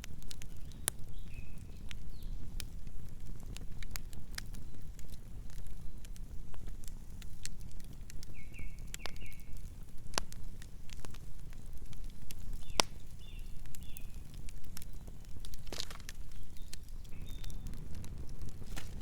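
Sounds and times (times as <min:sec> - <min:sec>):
campfire crackling and popping: 0:00.0 - 0:19.0
low fire rumble: 0:00.0 - 0:19.0.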